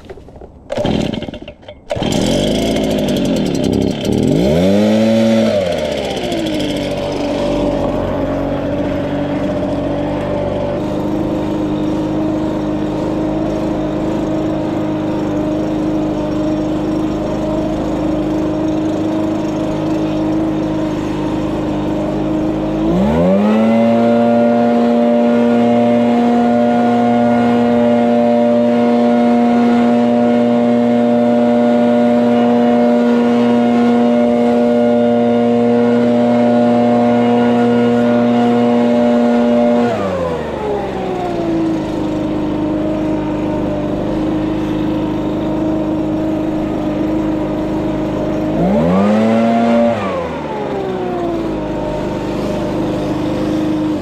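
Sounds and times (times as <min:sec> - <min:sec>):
leaf blower running: 0:00.0 - 0:54.0.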